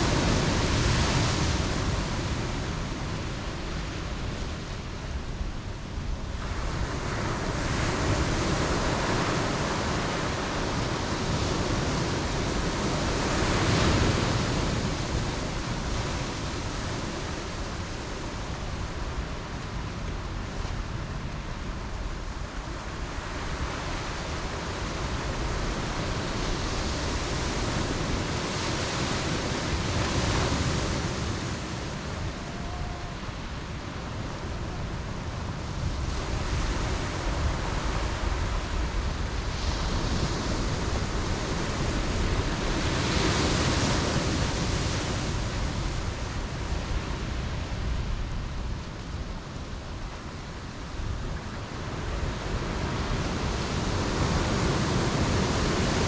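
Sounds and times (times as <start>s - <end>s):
ocean waves breaking: 6.0s - 56.0s.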